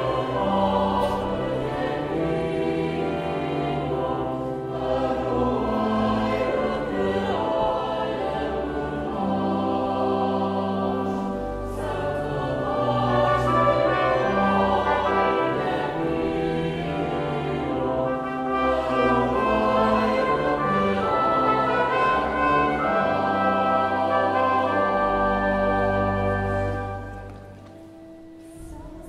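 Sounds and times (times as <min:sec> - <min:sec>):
pipe organ: 0:00.0 - 0:28.6
choir singing a hymn: 0:00.0 - 0:29.0.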